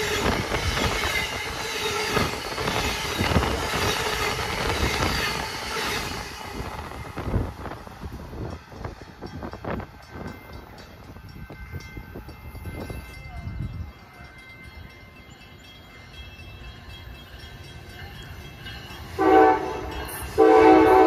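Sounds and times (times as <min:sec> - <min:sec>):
distant train rumble: 0:00.0 - 0:21.0.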